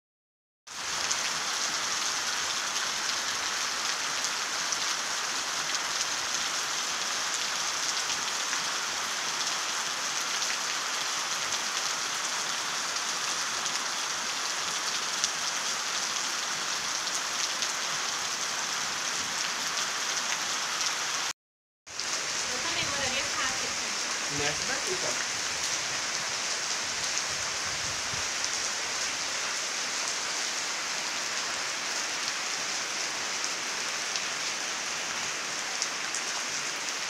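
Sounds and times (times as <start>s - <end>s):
rain falling on grass: 0.7s - 21.3s, 21.9s - 37.0s.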